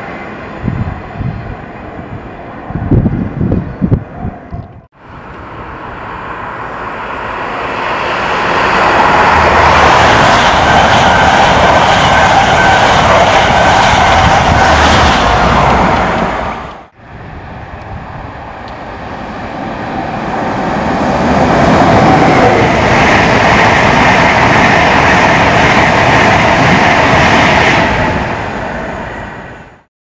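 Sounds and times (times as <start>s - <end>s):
train wheels rushing on rails: 5.1s - 29.9s.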